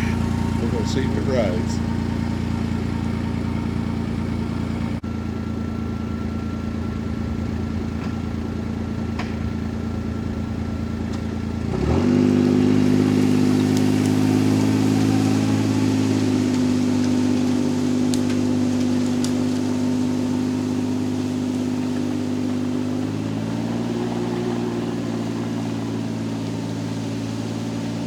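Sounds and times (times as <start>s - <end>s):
utility vehicle engine revving: 0.0s - 7.0s, 7.8s - 28.0s.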